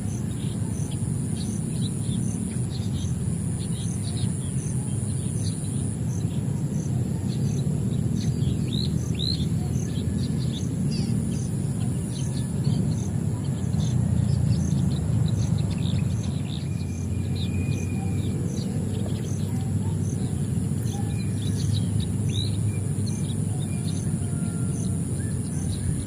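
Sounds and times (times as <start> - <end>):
high insect drone: 0.0 - 26.0
small birds chirping: 0.0 - 26.0.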